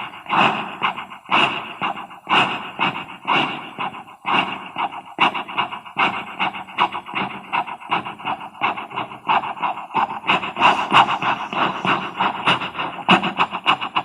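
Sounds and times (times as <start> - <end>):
vocal imitation of steam locomotive: 0.0 - 14.0.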